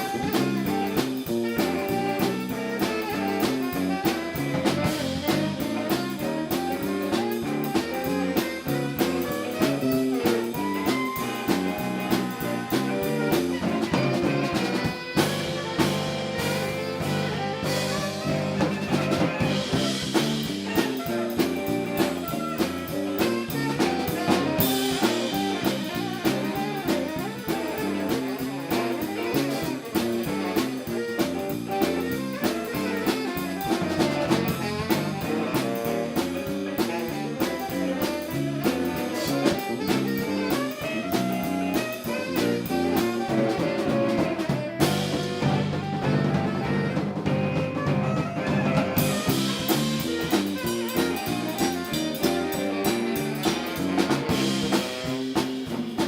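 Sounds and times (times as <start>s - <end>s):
bass line: 0.0s - 56.0s
drum kit beat: 0.0s - 56.0s
live jazz-funk band: 0.0s - 56.0s.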